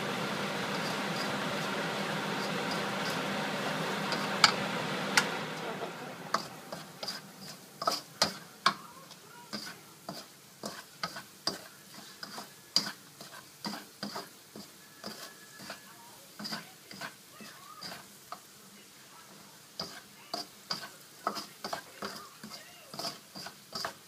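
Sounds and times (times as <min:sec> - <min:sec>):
spatula scraping a wok: 0:00.0 - 0:18.6, 0:19.3 - 0:24.0
garlic sizzling in oil: 0:00.0 - 0:24.0.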